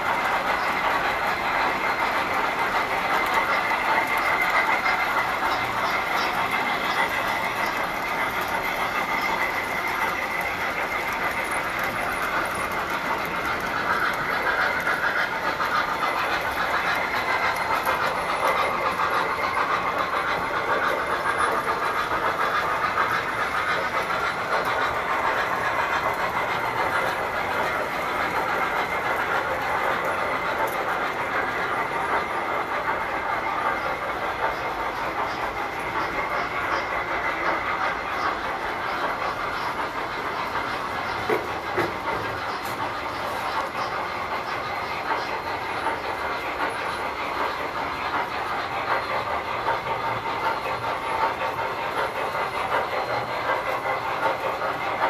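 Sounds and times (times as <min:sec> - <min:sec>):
model trains running on metal track: 0:00.0 - 0:55.0.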